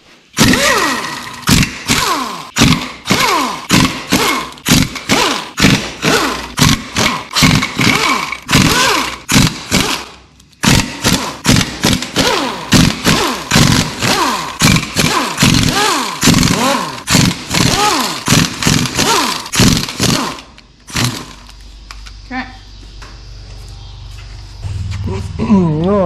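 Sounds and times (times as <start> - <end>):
power tool driving bolts: 0.4 - 21.6.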